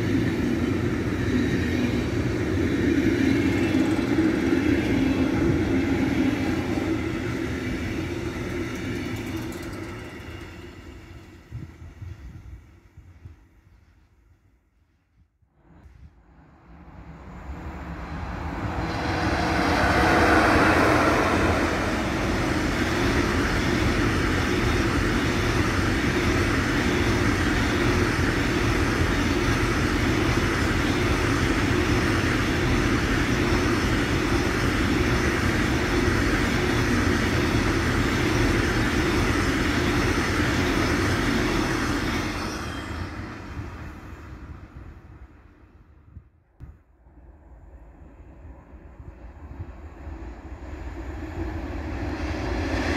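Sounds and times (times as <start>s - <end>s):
freight train passing: 0.0s - 14.0s, 15.6s - 46.2s, 47.0s - 52.9s
wheels rumbling on rail: 0.0s - 14.0s, 15.6s - 46.2s, 47.1s - 52.9s.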